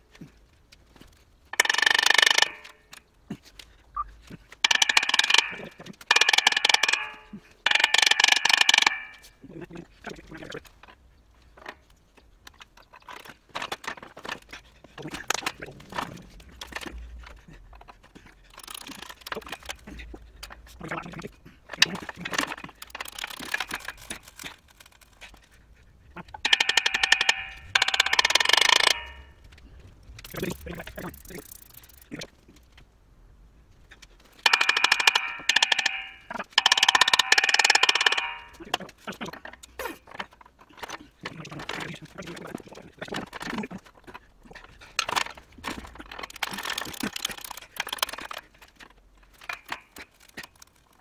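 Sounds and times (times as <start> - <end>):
metal clicks scrapes and knocks: 1.1 - 3.7, 4.4 - 9.4, 10.0 - 32.8, 34.0 - 51.0.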